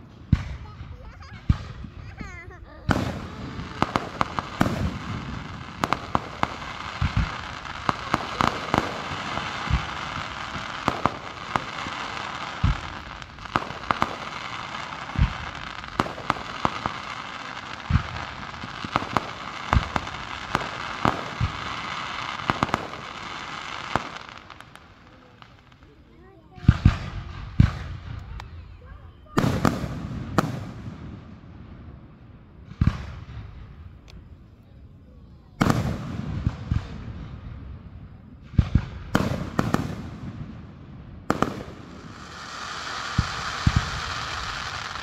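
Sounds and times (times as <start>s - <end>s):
fireworks bangs: 0.0s - 34.5s, 35.5s - 45.0s
fireworks crackling: 0.0s - 45.0s.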